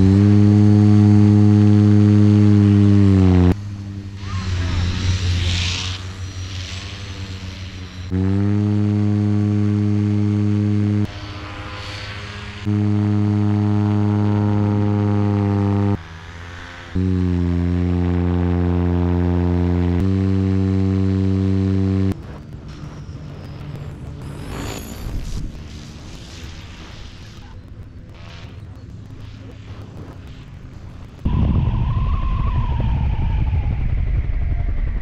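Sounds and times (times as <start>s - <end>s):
paramotor engine droning: 0.0s - 35.0s.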